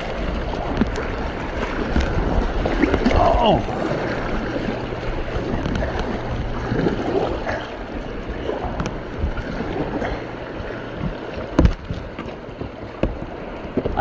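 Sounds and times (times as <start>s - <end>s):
whitewater rushing and splashing: 0.0s - 14.0s.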